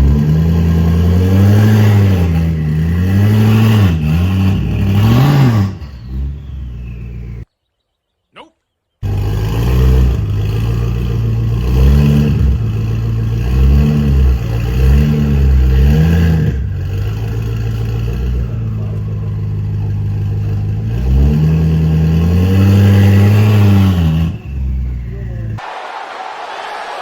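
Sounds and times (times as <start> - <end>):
car engine idling: 0.0 - 7.4, 9.0 - 25.6
car engine revving: 0.0 - 7.4, 9.0 - 25.6.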